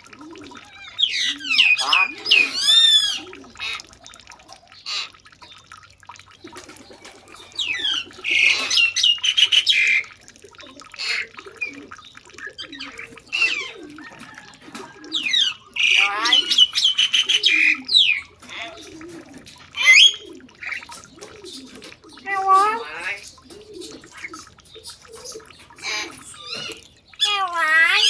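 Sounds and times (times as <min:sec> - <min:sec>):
birds chirping and whistling: 0:00.6 - 0:03.8, 0:06.5 - 0:10.1, 0:11.0 - 0:19.0, 0:19.7 - 0:28.0.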